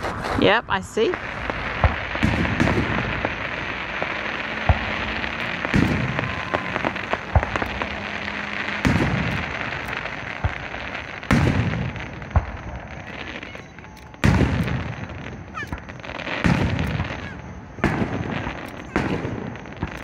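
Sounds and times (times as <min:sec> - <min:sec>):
fireworks deep booms: 0:00.0 - 0:20.0
fireworks sharp pops: 0:00.0 - 0:20.0.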